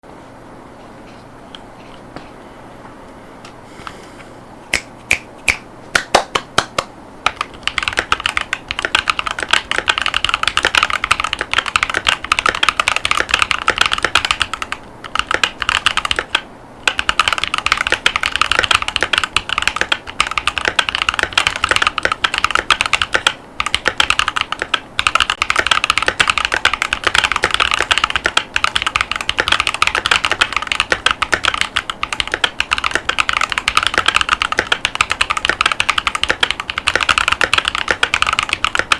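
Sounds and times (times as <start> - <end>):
typing on mechanical keyboard: 7.3 - 38.9.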